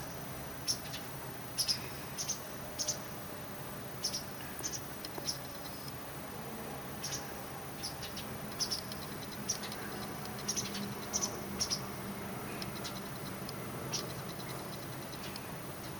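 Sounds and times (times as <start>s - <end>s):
nestlings peeping: 0.6s - 3.1s, 3.9s - 6.1s, 6.8s - 15.9s.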